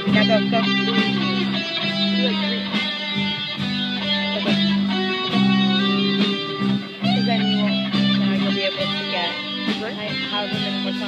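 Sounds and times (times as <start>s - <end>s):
electric guitar lead with bent notes: 0.0s - 11.0s
live rock band playing: 0.0s - 11.0s.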